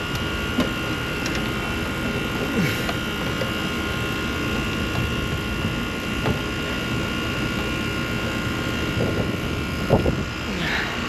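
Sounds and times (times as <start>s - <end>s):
air conditioner fan and compressor hum: 0.0s - 11.0s.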